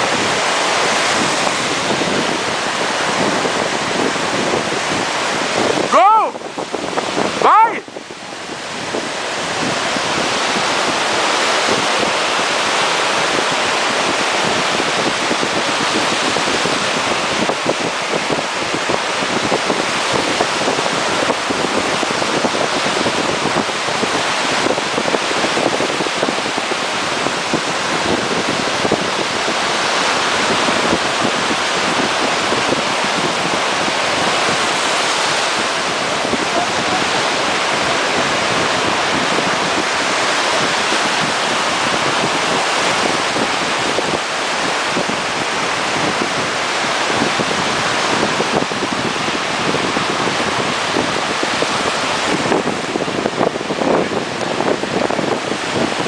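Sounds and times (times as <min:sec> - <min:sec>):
rushing water: 0:00.0 - 0:56.0
wind buffeting microphone: 0:00.0 - 0:56.0.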